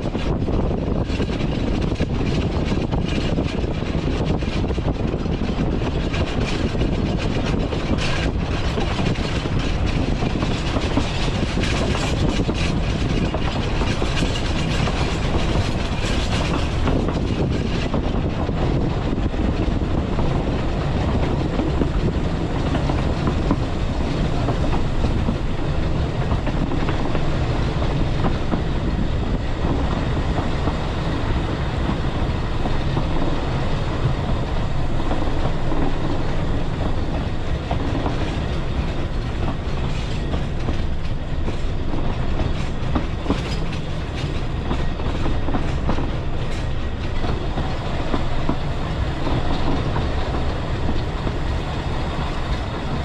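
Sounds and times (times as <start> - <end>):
rail clicks: 0.0 - 53.0
train wheels rumbling on rails: 0.0 - 53.0.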